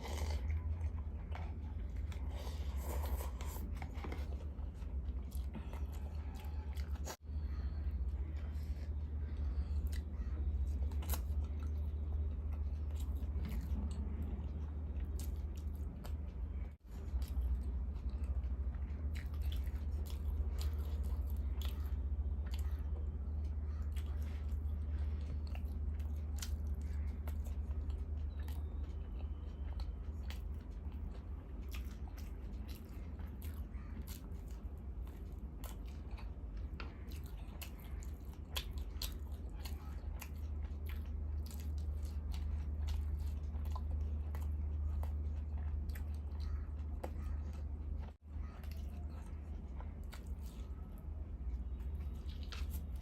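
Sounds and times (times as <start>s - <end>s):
chewing and eating: 0.0s - 53.0s
low hum: 0.0s - 53.0s.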